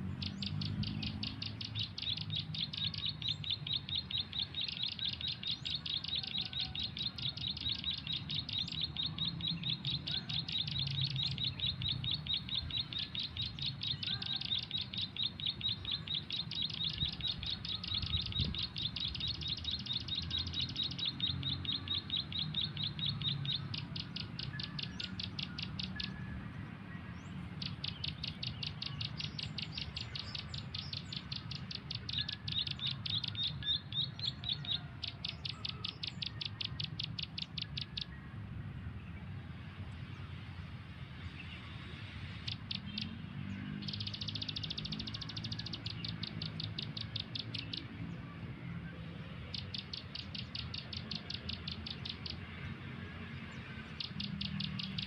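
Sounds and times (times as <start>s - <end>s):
small bird chirping: 0.0s - 26.4s, 27.1s - 38.2s, 42.2s - 48.2s, 49.1s - 55.0s.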